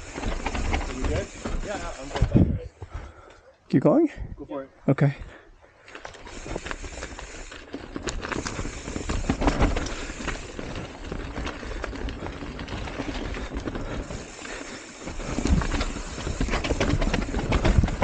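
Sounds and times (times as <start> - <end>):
bike rattling clicks and knocks: 0.0 - 2.4, 5.8 - 18.0
bike tyres crunching on dirt: 0.0 - 3.3, 5.3 - 18.0.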